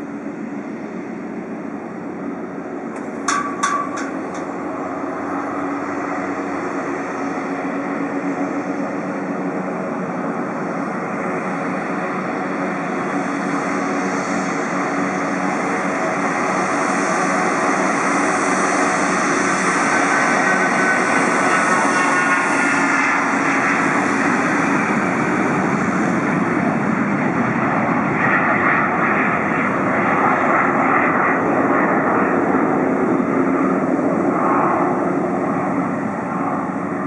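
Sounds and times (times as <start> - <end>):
turboprop engines droning: 0.0 - 37.0.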